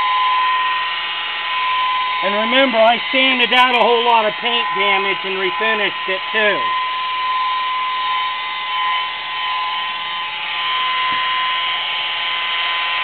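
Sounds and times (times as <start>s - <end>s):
electric polisher motor whine: 0.0s - 13.0s.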